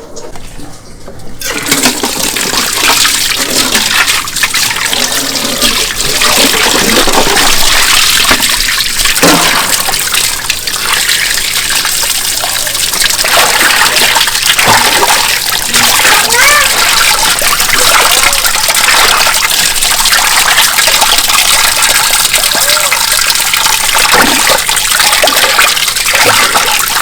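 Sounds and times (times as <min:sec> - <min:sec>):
tap water running and splashing: 0:00.0 - 0:27.0.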